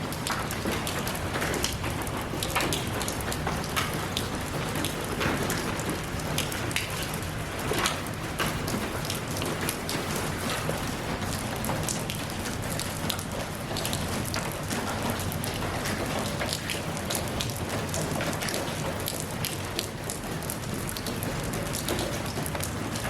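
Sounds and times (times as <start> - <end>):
steady rain falling: 0.0 - 23.0
raindrop impacts: 0.1 - 23.0.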